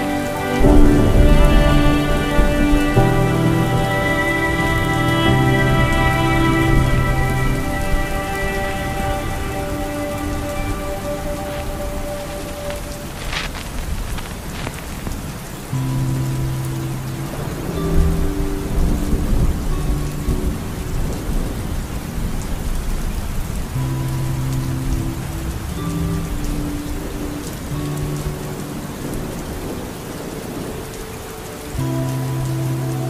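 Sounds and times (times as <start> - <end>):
quiet music with held notes: 0.0 - 33.0
rain on car windshield: 0.0 - 33.0.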